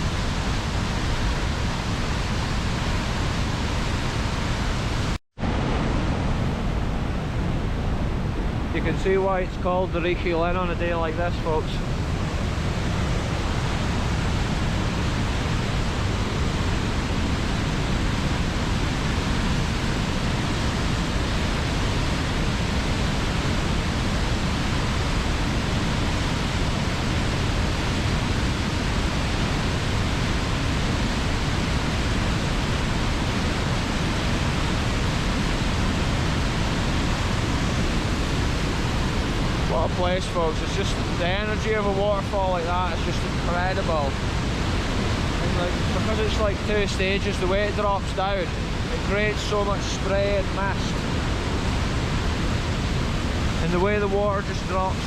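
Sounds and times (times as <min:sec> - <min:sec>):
waterfall roaring onto rocks: 0:00.0 - 0:55.0.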